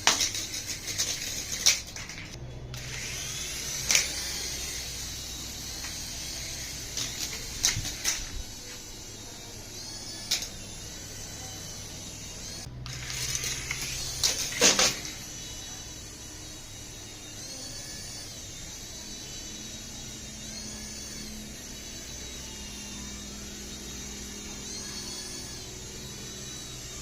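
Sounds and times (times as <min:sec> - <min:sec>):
toy helicopter motor whining: 0:00.0 - 0:27.0.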